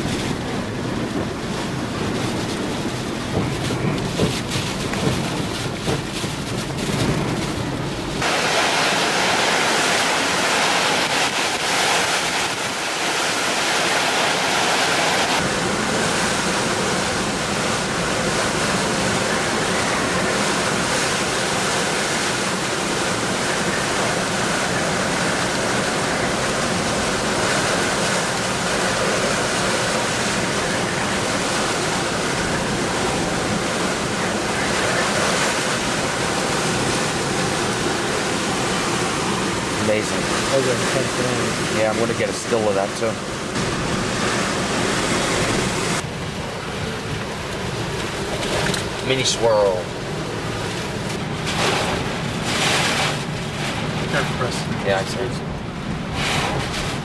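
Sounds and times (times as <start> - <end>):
heavy rain: 0.0 - 57.0
hurricane wind: 0.0 - 57.0.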